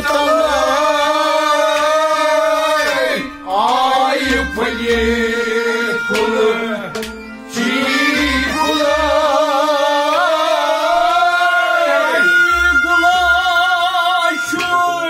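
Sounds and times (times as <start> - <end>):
man singing melismatic phrases: 0.0 - 6.9, 7.6 - 15.0.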